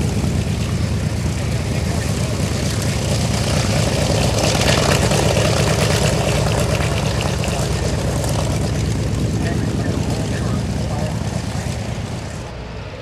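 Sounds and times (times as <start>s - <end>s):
propeller plane engine rumbling: 0.0s - 13.0s.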